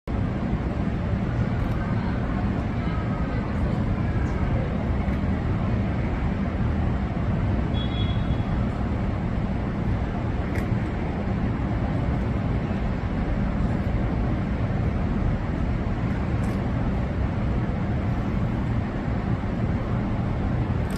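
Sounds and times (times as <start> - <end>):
low rumbling background noise: 0.0 - 20.9.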